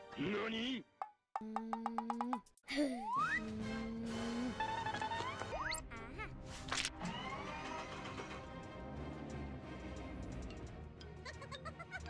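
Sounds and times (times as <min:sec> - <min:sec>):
background music: 0:00.0 - 0:01.2, 0:02.7 - 0:12.0.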